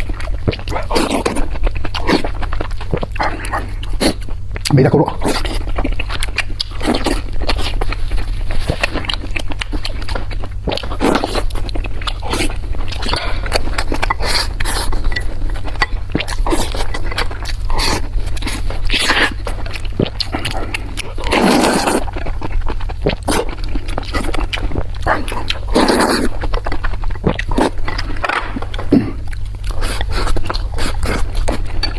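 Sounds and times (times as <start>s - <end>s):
chewing with wet smacks: 0.0s - 31.9s
noisy mouth sound: 0.0s - 31.9s
steady low hum: 0.0s - 31.9s.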